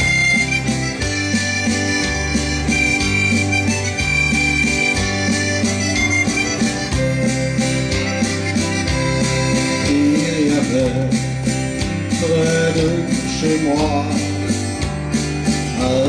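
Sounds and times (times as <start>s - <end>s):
electric guitar strumming: 0.0s - 16.0s
repeating bass line: 0.0s - 16.0s
steady beat: 0.0s - 16.0s.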